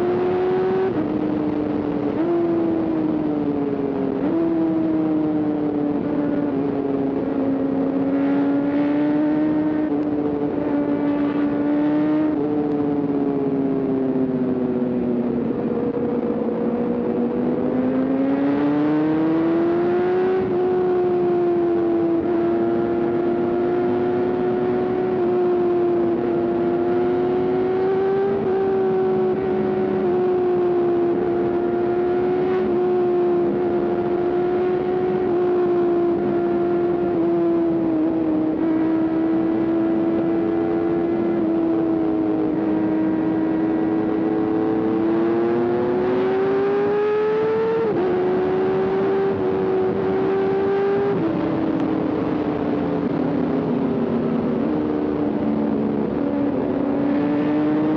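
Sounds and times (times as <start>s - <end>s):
motorcycle engine revving high: 0.0s - 57.9s.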